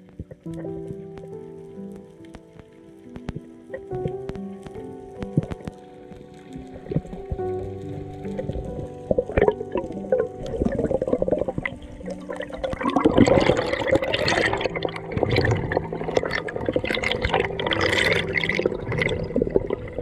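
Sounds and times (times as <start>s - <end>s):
background music with held notes: 0.0s - 20.0s
underwater bubbling and rushing water: 0.0s - 20.0s.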